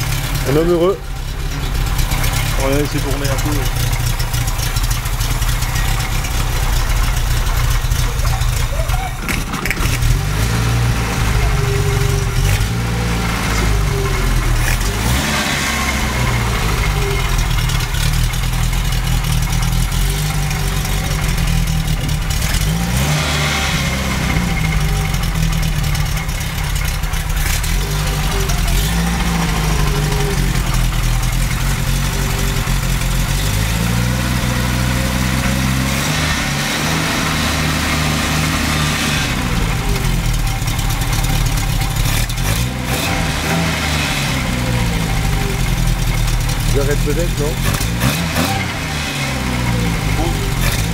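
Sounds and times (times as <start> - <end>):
car engine idling and revving: 0.0 - 50.9.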